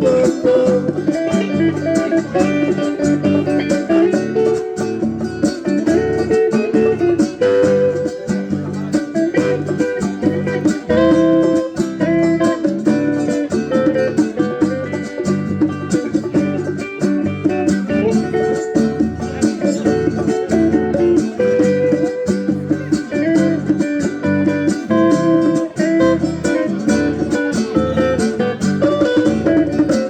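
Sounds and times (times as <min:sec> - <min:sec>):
drum kit beat: 0:00.0 - 0:30.0
guitar chords: 0:00.0 - 0:30.0
live band playing: 0:00.0 - 0:30.0.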